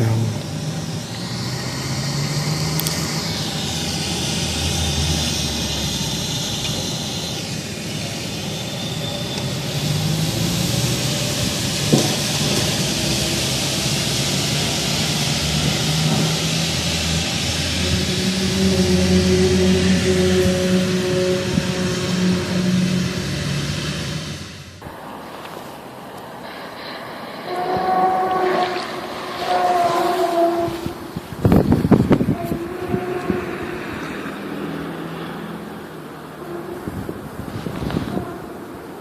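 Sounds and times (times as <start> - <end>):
hiss: 0.0 - 39.0
low drone of steady tones: 0.0 - 39.0.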